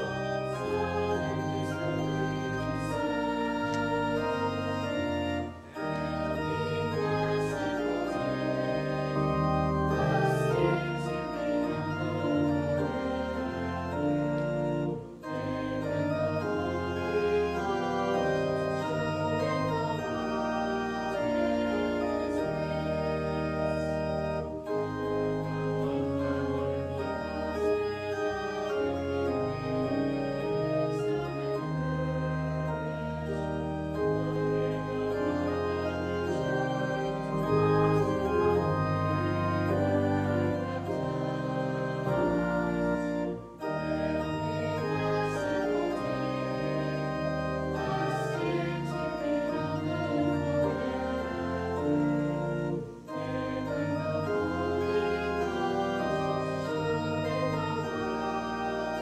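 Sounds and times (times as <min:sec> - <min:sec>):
organ playing church music: 0:00.0 - 0:59.0.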